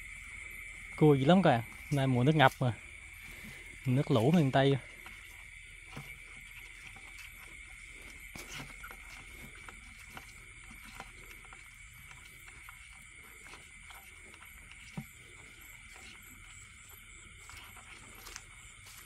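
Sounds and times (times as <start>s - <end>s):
high-pitched insect drone: 0.0s - 19.0s
wading through shallow water: 0.0s - 19.0s.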